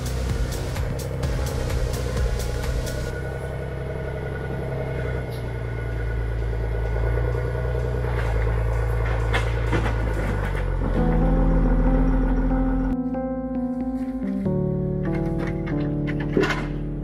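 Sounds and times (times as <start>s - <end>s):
heavy machine engine humming: 0.0s - 17.0s.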